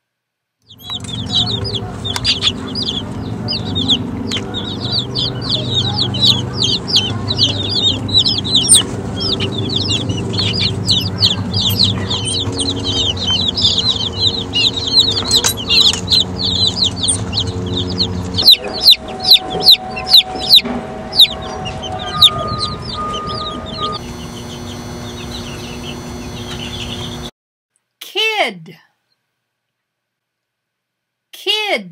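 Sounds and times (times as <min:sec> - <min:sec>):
baby chicks peeping: 0:00.7 - 0:27.3
low steady hum: 0:00.7 - 0:27.3.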